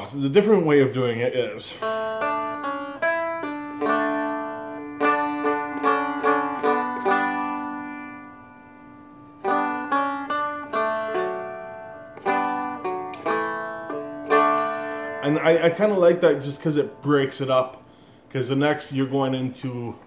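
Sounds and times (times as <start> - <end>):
picked string melody: 0.0 - 20.0.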